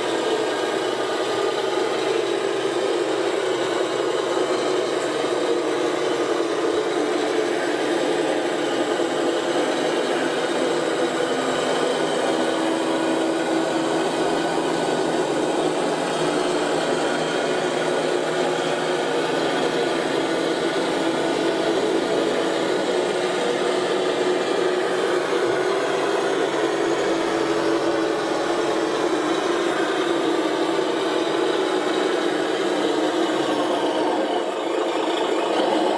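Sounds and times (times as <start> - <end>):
hydraulic pump humming: 0.0 - 35.9.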